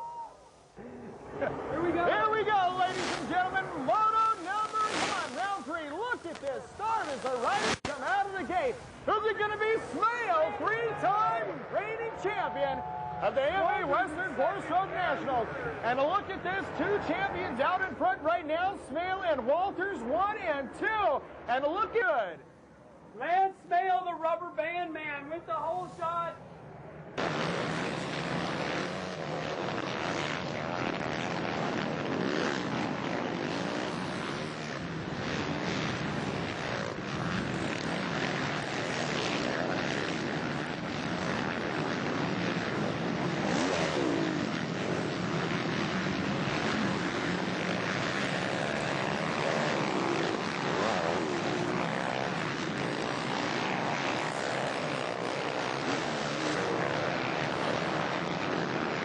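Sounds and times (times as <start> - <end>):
motocross bike engines revving: 0.8 - 20.1, 27.2 - 59.0.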